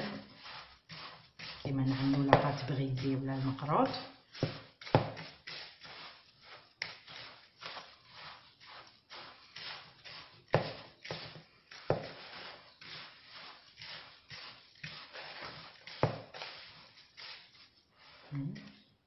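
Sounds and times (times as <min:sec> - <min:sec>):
hands rubbing semolina: 0:00.0 - 0:19.0.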